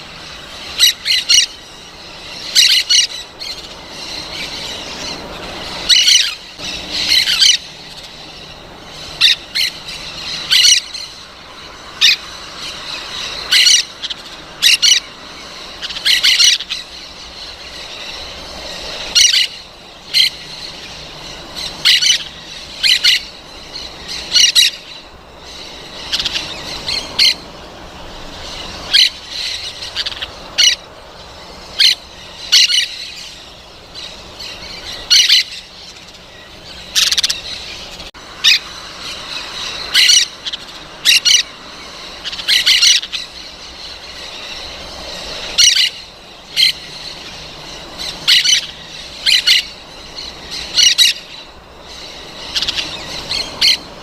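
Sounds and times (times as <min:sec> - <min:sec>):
parrots squawking: 0:00.0 - 0:54.0.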